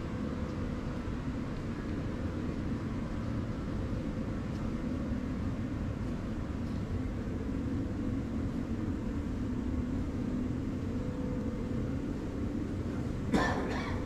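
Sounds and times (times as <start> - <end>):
machinery drone: 0.0 - 14.0.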